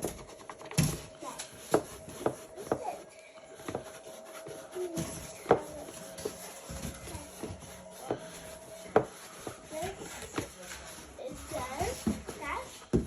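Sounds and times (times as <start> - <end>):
plastic covers being rubbed: 0.0 - 13.0.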